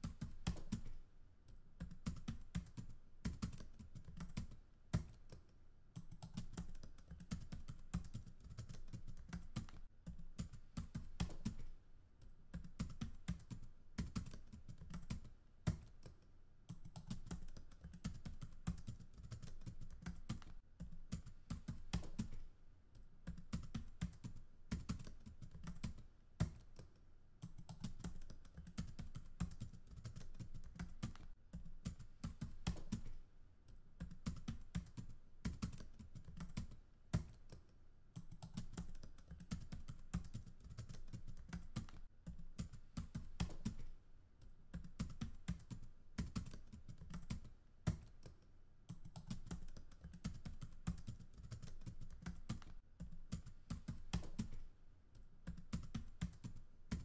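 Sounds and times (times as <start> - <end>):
computer keyboard typing: 0.0 - 1.0, 1.8 - 22.5, 23.2 - 57.0.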